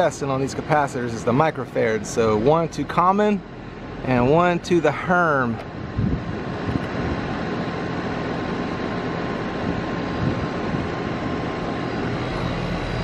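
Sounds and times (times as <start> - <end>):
mechanical droning: 0.0 - 13.0
low hum: 0.2 - 13.0.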